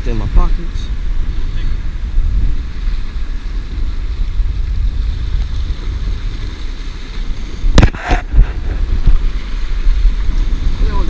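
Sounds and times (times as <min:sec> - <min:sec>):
waves washing against rocks: 0:00.0 - 0:11.0
wind rumbling on microphone: 0:00.0 - 0:11.0.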